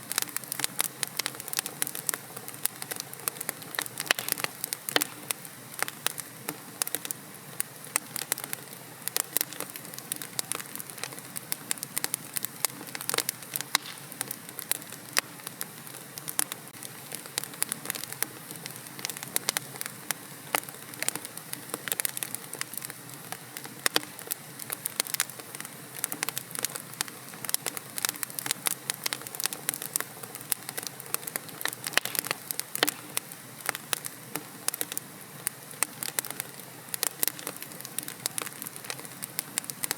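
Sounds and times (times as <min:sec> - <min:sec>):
low fire hiss: 0:00.0 - 0:39.9
wood fire crackling: 0:00.0 - 0:39.9.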